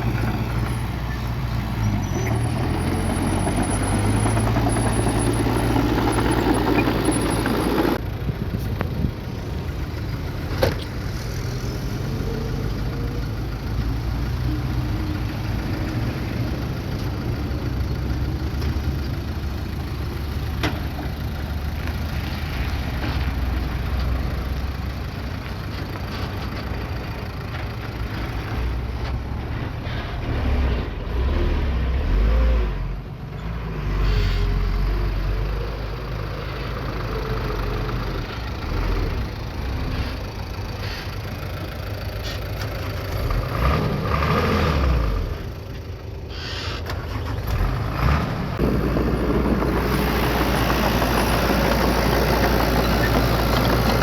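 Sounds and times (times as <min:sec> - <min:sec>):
bulldozer diesel engine running: 0:00.0 - 0:32.2, 0:33.0 - 0:54.0.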